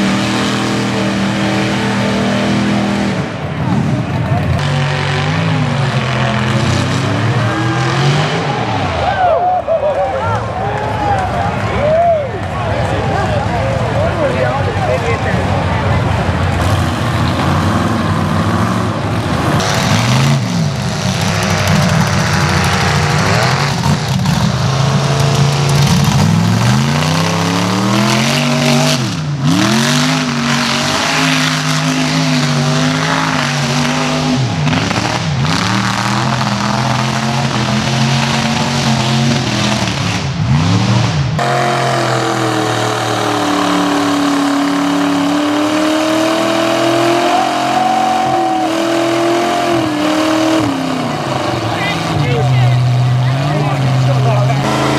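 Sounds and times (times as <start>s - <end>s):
truck engine held at high revs: 0.0s - 9.0s, 15.3s - 54.9s
truck engines revving in mud: 0.0s - 54.9s.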